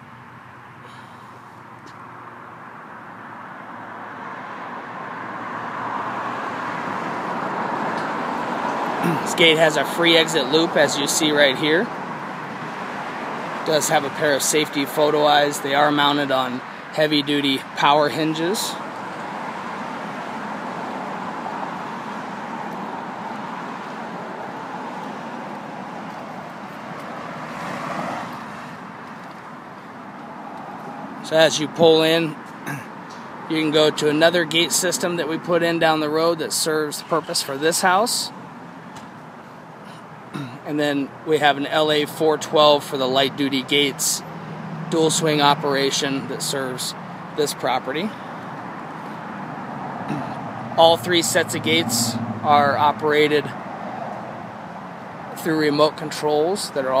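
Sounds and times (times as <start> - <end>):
vehicle tyres on road: 0.0 - 57.0.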